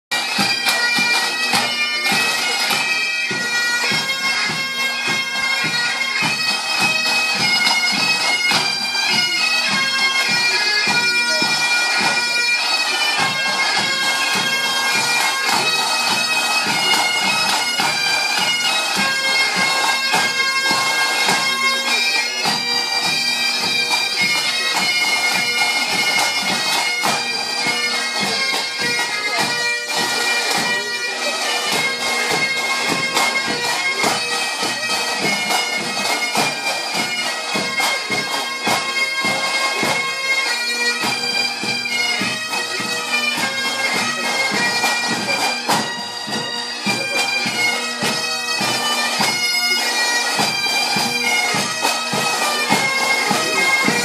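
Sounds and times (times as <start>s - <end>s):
bagpipes playing: 0.1s - 54.0s
drums beating: 0.1s - 54.0s.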